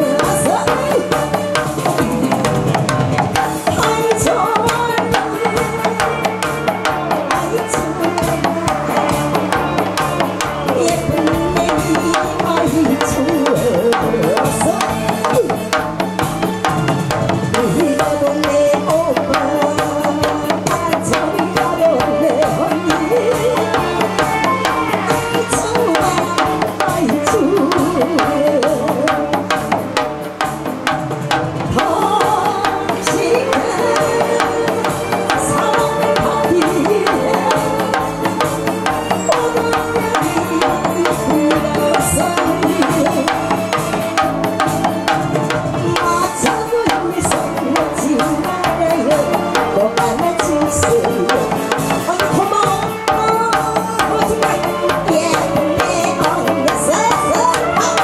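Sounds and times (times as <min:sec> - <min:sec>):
pitch-bending melody: 0:00.0 - 0:58.0
steady drum beat: 0:00.0 - 0:58.0.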